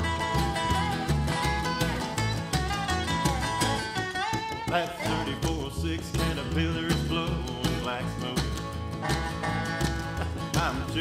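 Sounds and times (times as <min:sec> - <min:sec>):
country band playing: 0:00.0 - 0:11.0.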